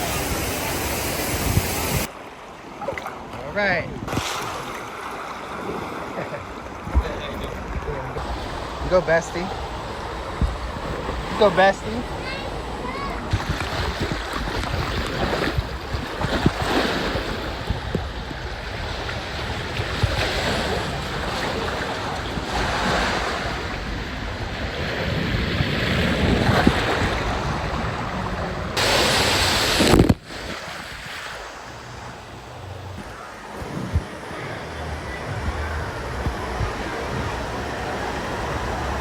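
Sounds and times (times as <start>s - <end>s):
wind noise on microphone: 0.0s - 2.1s, 3.8s - 4.8s, 6.8s - 39.0s
water rushing: 0.0s - 39.0s
water splashing: 0.0s - 39.0s.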